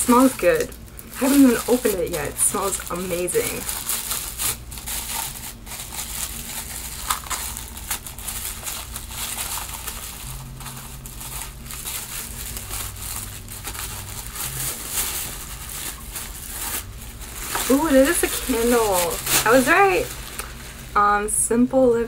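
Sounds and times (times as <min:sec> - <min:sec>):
wrapping crinkling and rustling: 0:00.0 - 0:21.4.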